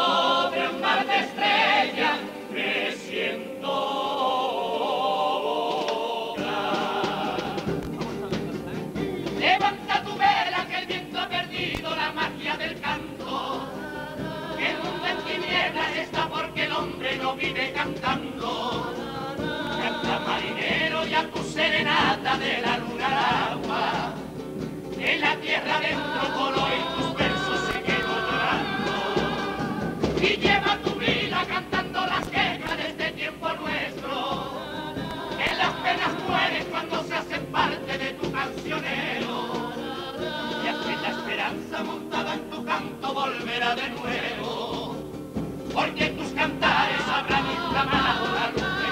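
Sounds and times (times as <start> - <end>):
acoustic guitar accompaniment: 0.0 - 48.9
male chorus singing: 0.0 - 48.9.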